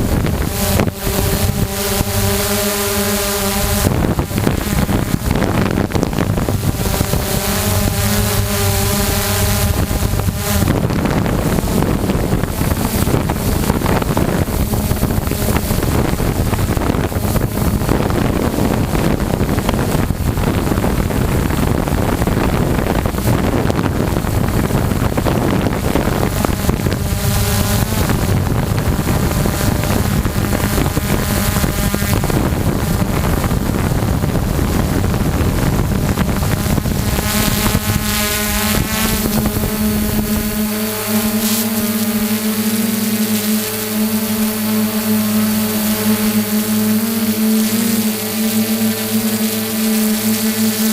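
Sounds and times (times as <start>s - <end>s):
drone motors and propellers: 0.0s - 50.9s
wind buffeting microphone: 0.0s - 50.9s.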